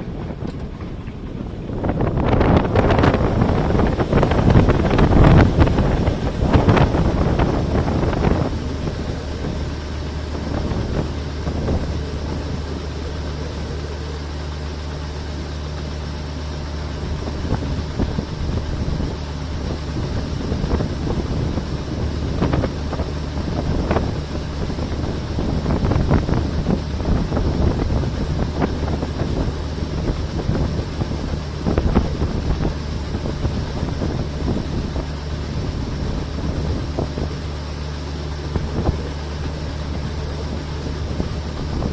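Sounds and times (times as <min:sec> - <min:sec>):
diesel engine running steadily: 0:00.0 - 0:41.9
wind buffeting microphone: 0:00.0 - 0:41.9.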